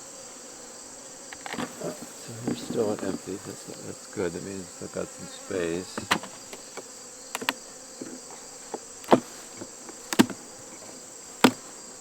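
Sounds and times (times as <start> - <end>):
high insect chirring: 0.0 - 12.0
honeybee hive humming: 0.0 - 12.0
wooden knocks of hive frames: 1.2 - 12.0.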